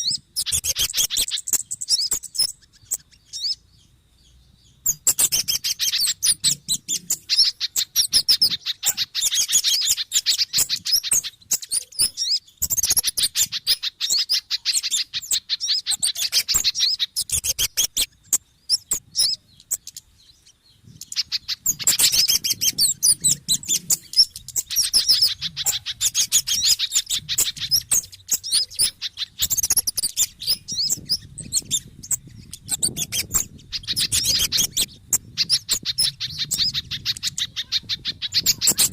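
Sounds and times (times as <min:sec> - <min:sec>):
small birds agitated chattering: 0:00.0 - 0:38.9.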